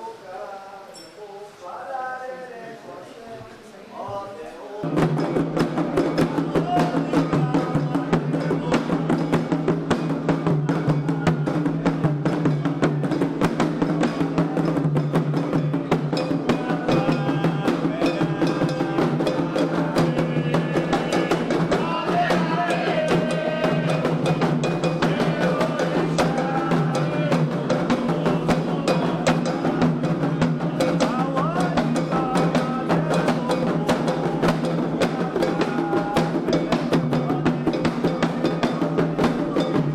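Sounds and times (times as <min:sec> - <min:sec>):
voices chanting: 0:00.0 - 0:39.9
hand drums beating: 0:04.8 - 0:39.9.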